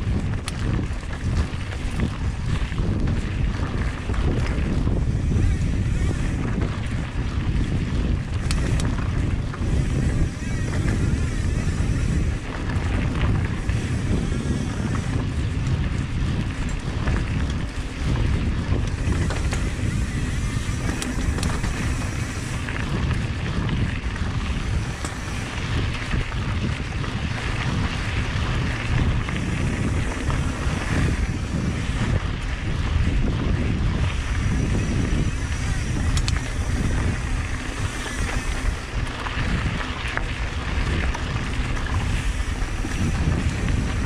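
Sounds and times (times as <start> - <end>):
bike tyres rolling on dirt: 0.0 - 44.0
wind rumble on microphone: 0.0 - 44.0.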